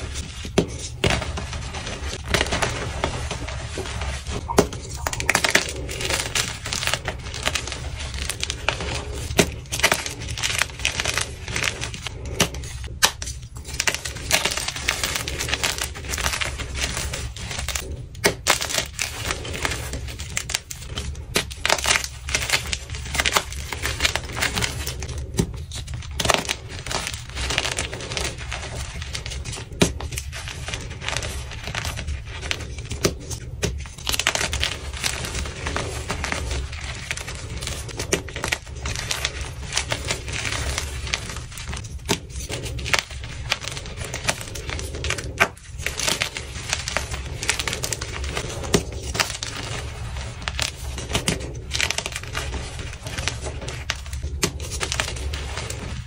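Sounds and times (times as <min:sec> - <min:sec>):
hands crushing chalk blocks: 0:00.0 - 0:56.0.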